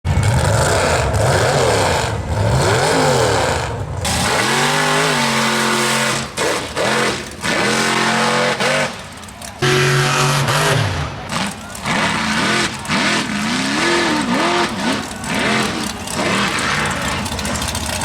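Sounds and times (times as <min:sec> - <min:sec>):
truck engine revving: 0:00.1 - 0:18.0.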